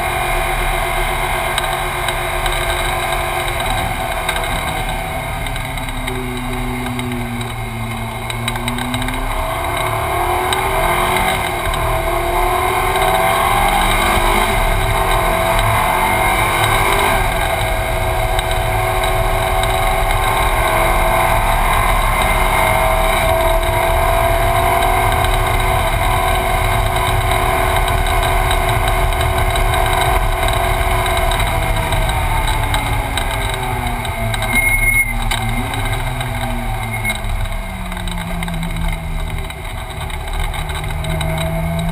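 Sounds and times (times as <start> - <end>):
car engine under hard driving: 0.0 - 41.9.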